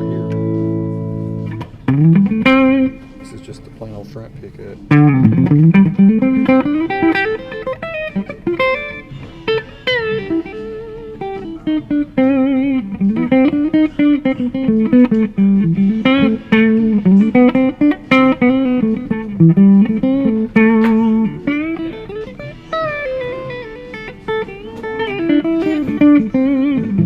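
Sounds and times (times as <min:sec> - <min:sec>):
bluesy electric guitar lead: 0:00.0 - 0:27.0.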